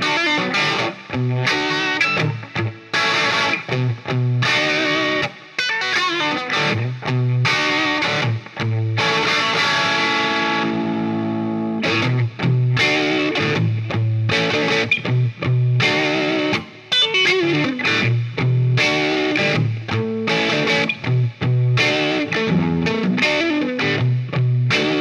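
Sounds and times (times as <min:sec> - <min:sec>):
electric guitar chords: 0:00.0 - 0:25.0.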